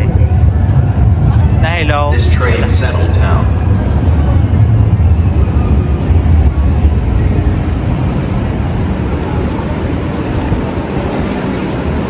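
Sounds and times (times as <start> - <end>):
light rail train rumbling: 0.0 - 12.0.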